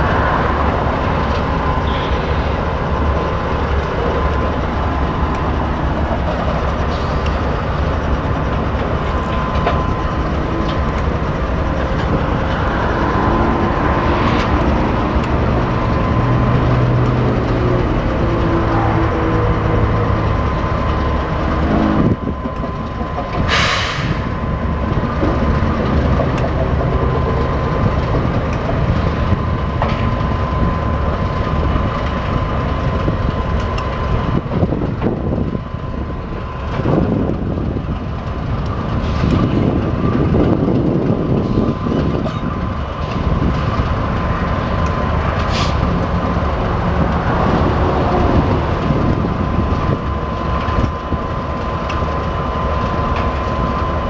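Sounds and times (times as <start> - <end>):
diesel locomotive rumbling: 0.0 - 54.0.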